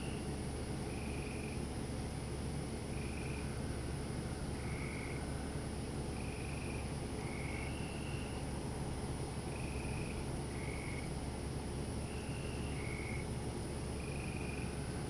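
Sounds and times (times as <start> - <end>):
frogs calling: 0.0 - 1.7, 2.9 - 8.6, 9.3 - 11.2, 11.8 - 15.0
high insect drone: 0.0 - 1.7, 2.7 - 15.0
crickets chirping: 0.0 - 15.0.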